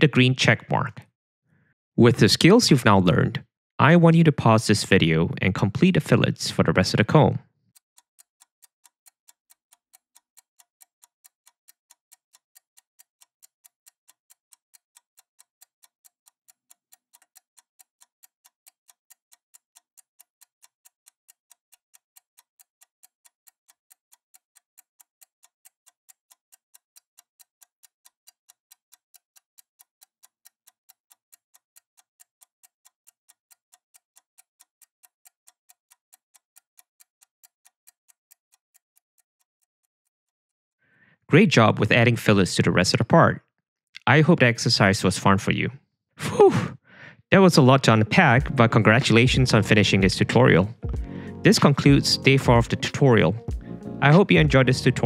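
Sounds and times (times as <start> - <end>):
clock-like ticking: 2.0 - 7.4, 8.0 - 39.7, 41.3 - 43.1, 44.0 - 55.0.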